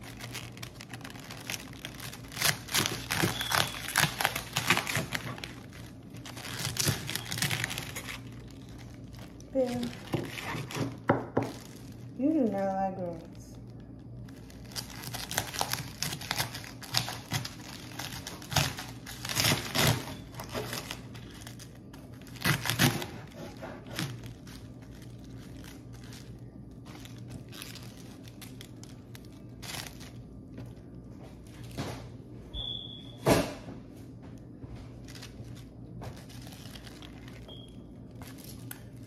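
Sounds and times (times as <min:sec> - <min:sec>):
plastic packaging crinkling: 0:00.0 - 0:31.9, 0:34.4 - 0:39.0
steady low hum: 0:00.0 - 0:39.0.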